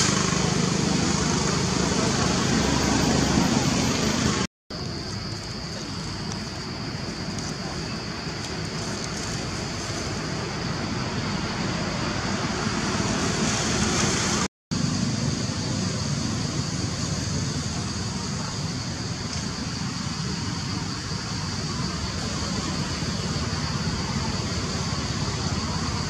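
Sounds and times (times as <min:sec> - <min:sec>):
even rushing noise: 0:00.0 - 0:04.5, 0:08.0 - 0:26.0.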